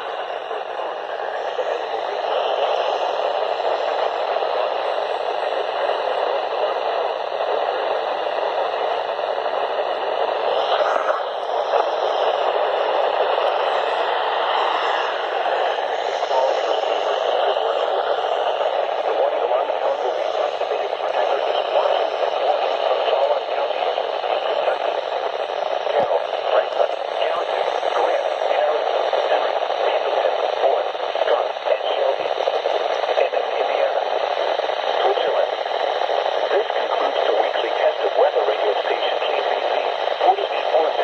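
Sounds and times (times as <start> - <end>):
radio static hiss: 0.0 - 41.0.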